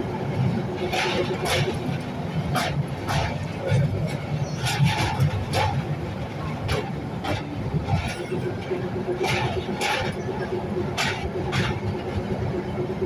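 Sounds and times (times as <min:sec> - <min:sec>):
train rumbling: 0:00.0 - 0:13.0
wheels clacking: 0:00.0 - 0:13.0.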